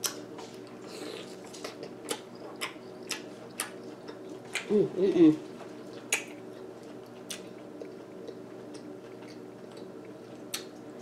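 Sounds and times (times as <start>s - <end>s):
person chewing: 0.0s - 5.0s, 5.8s - 11.0s.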